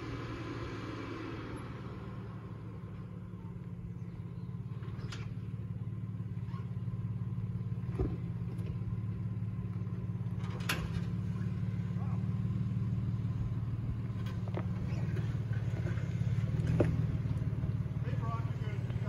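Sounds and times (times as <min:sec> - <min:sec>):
truck engine at low revs: 0:00.0 - 0:19.0.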